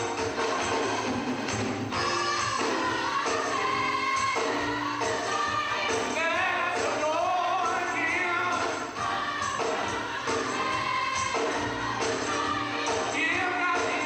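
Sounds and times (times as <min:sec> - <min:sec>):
backing music: 0:00.0 - 0:14.0
choir singing gospel: 0:00.0 - 0:14.0.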